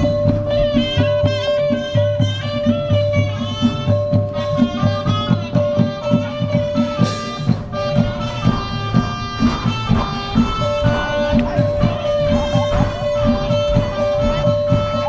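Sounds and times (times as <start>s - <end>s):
live band music: 0.0s - 15.0s
quick drum beat: 0.0s - 15.0s.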